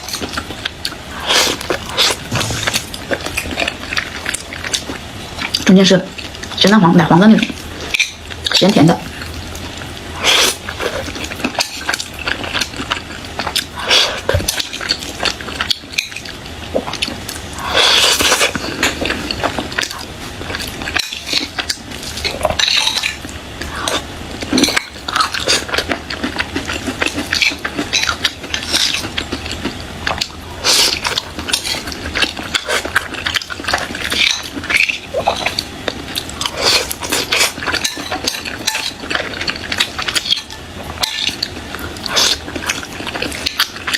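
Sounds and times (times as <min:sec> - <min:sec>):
chewing and mouth sounds: 0:00.0 - 0:06.6, 0:07.4 - 0:43.9.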